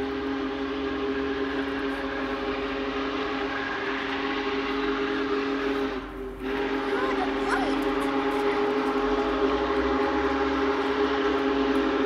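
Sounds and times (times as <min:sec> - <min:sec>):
distant steam whistle: 0:00.0 - 0:12.0.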